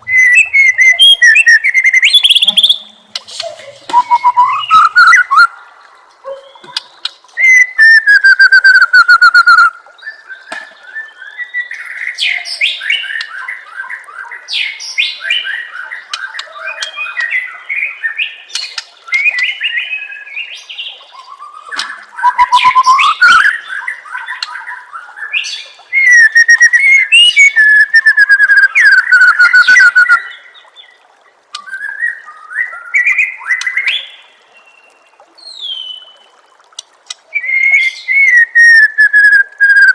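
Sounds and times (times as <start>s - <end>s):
bird singing whistles and trills: 0.0s - 5.6s, 6.2s - 30.5s, 31.5s - 36.3s, 37.3s - 39.9s.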